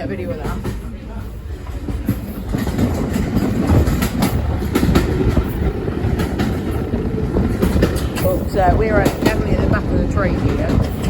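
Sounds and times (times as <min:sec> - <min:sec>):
railway coach rumble: 0:00.0 - 0:11.0
wheels clicking over rail joints: 0:00.0 - 0:11.0.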